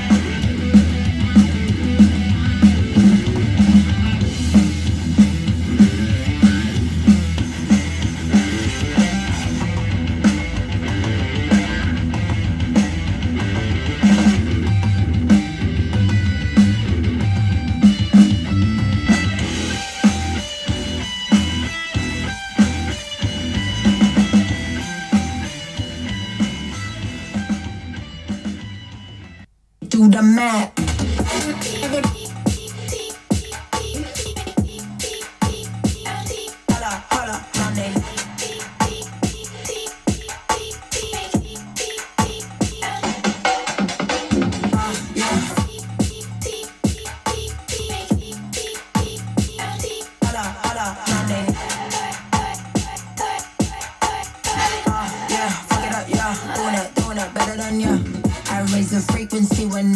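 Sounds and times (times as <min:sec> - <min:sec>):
rock music from speaker: 0:00.0 - 0:29.5, 0:30.8 - 0:59.9.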